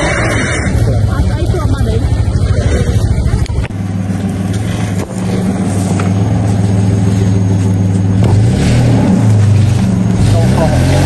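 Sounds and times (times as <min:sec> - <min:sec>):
pickup truck engine at low revs: 0:00.0 - 0:11.0.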